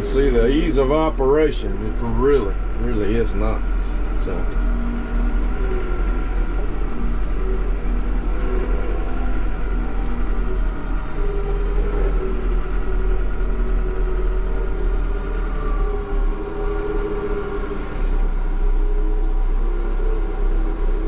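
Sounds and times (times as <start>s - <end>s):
tractor diesel engine from cab: 0.0s - 21.0s.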